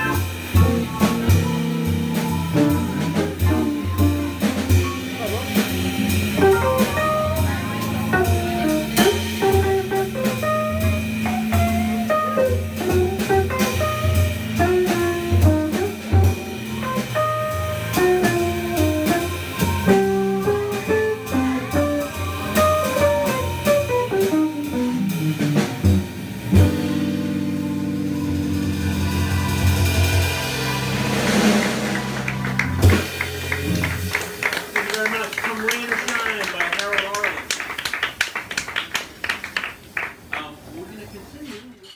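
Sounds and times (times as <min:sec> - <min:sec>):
steady cymbals: 0:00.0 - 0:34.2
jazz organ trio playing: 0:00.0 - 0:35.3.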